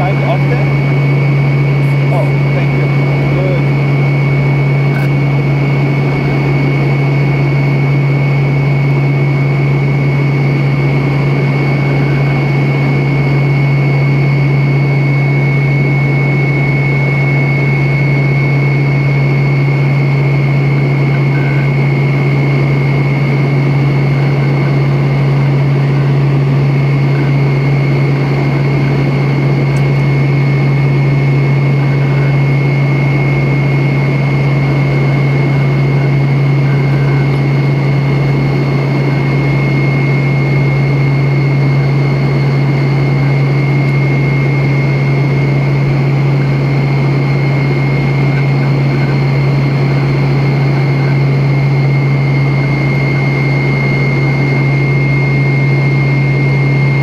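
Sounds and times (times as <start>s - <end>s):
airliner cabin engine hum: 0.0s - 57.0s
high-pitched whine: 0.0s - 57.0s.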